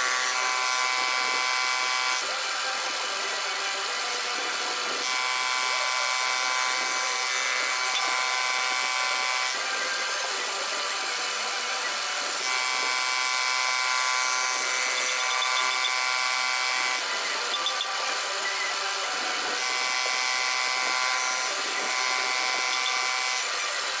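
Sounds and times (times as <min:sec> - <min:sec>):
machine whine: 0:00.0 - 0:24.0
milling machine cutting metal: 0:00.0 - 0:24.0.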